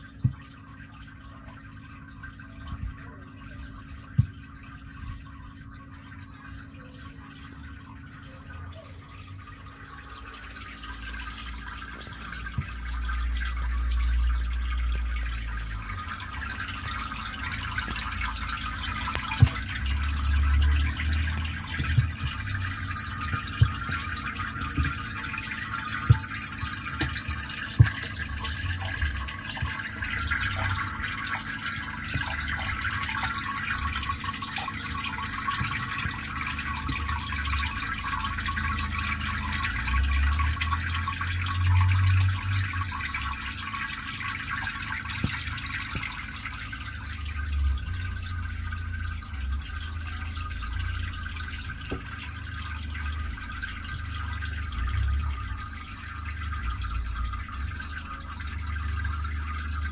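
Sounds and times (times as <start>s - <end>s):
aquarium filter water splashing: 0.0s - 59.9s.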